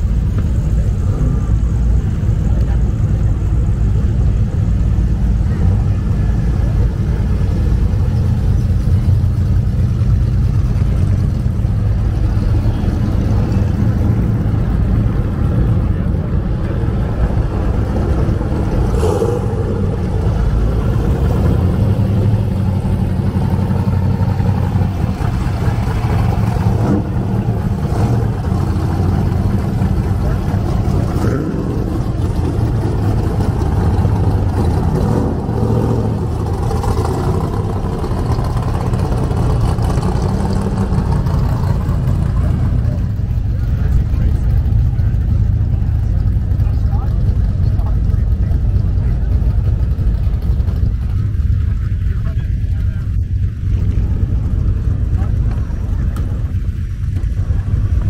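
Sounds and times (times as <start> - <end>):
cars driving past: 0.0 - 58.0.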